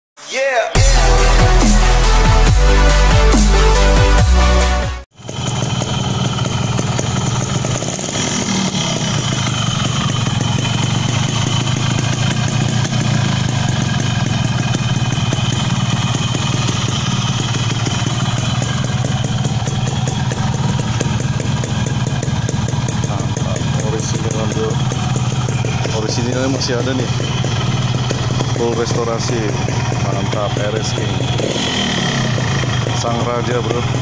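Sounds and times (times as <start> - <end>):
two-stroke engine idling: 5.1 - 34.0.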